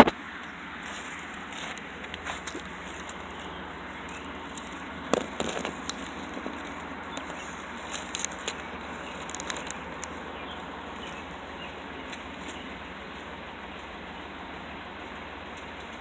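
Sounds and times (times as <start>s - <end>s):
handling clicks and rustles: 0.0s - 13.8s
car engine idling: 0.0s - 16.0s.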